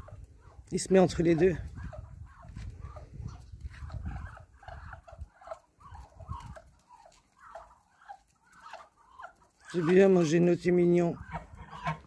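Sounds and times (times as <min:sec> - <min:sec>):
poultry short soft calls: 0:01.3 - 0:10.2, 0:11.1 - 0:12.0.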